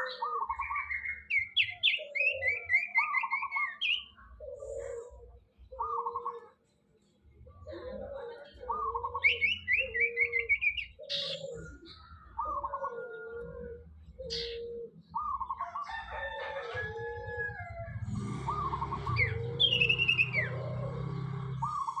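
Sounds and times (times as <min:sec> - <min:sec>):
bird warbling song: 0:00.0 - 0:22.0.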